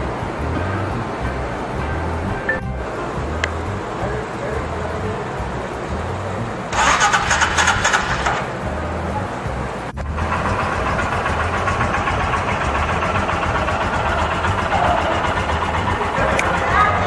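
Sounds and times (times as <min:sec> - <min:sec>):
motorcycle engine starting and running: 0:00.0 - 0:17.0.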